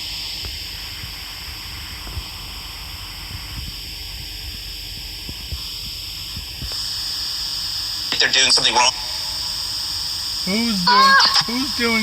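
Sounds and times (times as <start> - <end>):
hissing static: 0.0 - 12.0.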